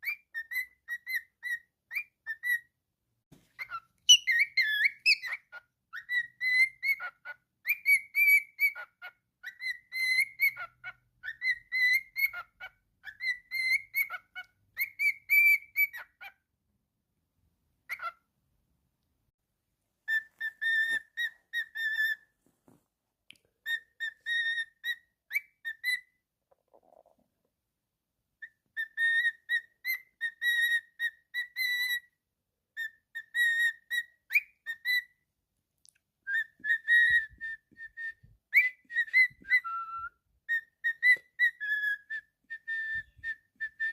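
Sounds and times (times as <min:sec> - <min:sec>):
cockatiel whistling a tune: 0:00.0 - 0:02.8, 0:03.6 - 0:16.4, 0:17.8 - 0:18.3, 0:20.0 - 0:22.3, 0:23.6 - 0:26.2, 0:28.4 - 0:35.2, 0:36.2 - 0:43.9.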